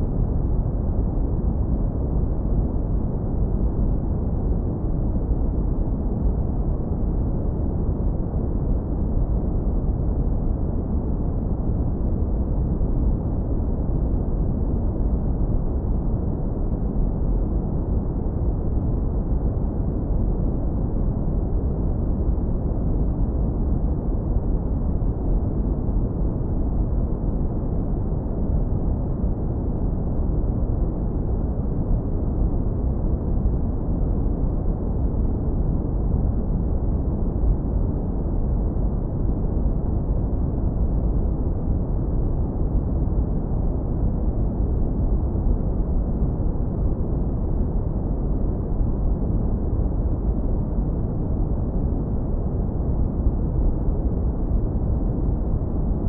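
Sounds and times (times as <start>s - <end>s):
deep brown noise rumble: 0.0s - 56.0s.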